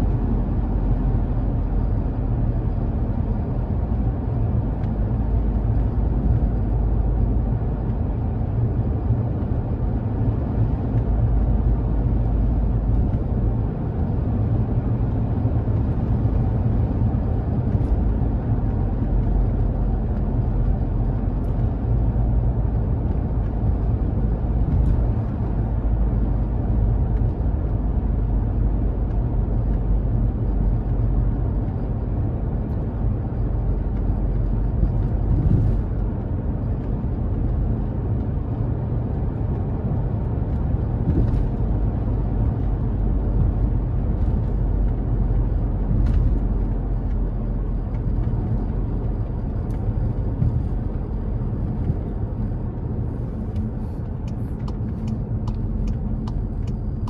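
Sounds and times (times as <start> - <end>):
car cabin road and engine noise: 0.0 - 57.0.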